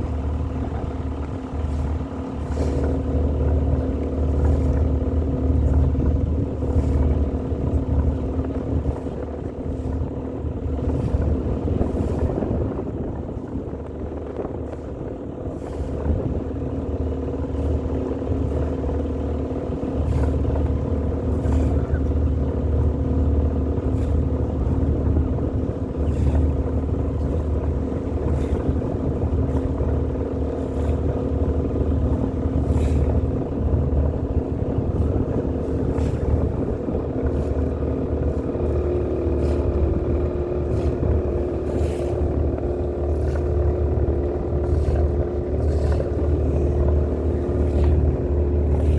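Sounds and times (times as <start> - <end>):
boat engine droning: 0.0 - 48.9
wind and water rushing: 0.0 - 48.9.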